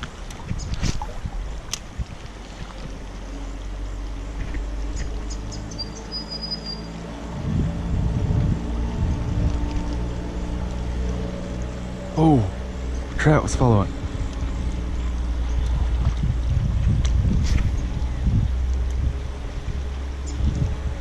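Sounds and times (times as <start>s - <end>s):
wind buffeting microphone: 0.0s - 6.3s, 6.9s - 21.0s.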